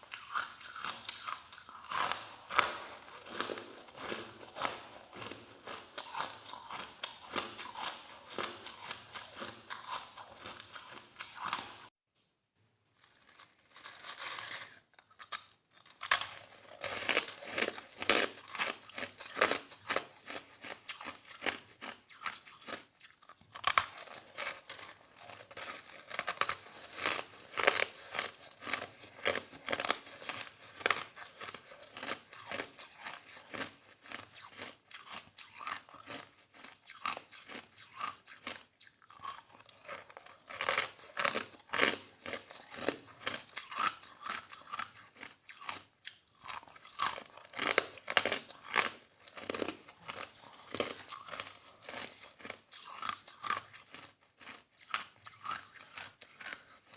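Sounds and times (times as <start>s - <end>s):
chewing crushed ice: 0.0s - 11.9s, 13.0s - 56.9s.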